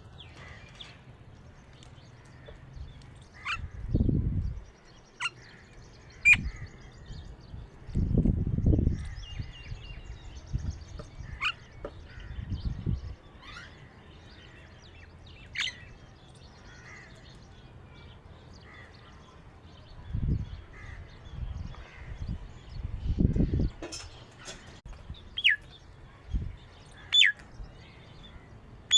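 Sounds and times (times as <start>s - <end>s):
birds chirping and calling: 0.0s - 28.9s.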